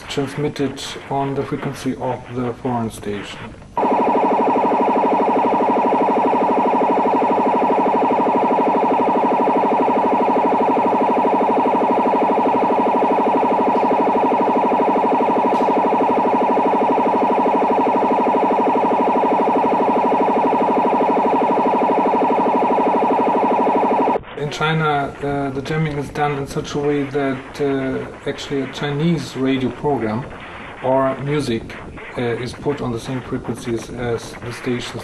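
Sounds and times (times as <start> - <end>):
warbling radio jamming signal: 0.0 - 35.0.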